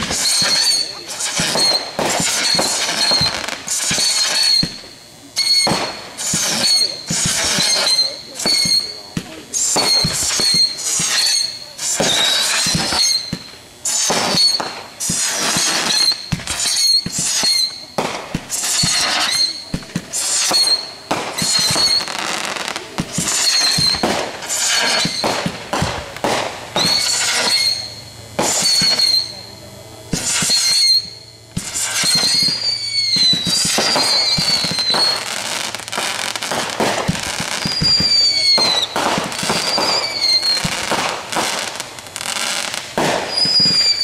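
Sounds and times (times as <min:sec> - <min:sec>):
firework crackling and pops: 0:00.0 - 0:44.0
whistling fireworks: 0:00.0 - 0:44.0.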